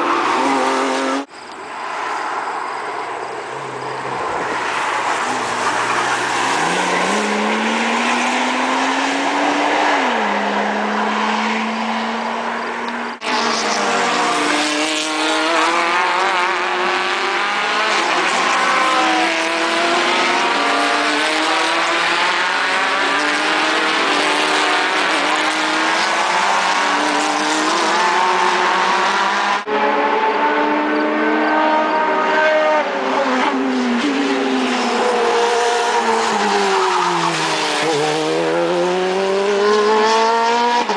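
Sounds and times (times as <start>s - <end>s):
race car engines at high revs: 0.0s - 2.4s, 3.1s - 40.9s.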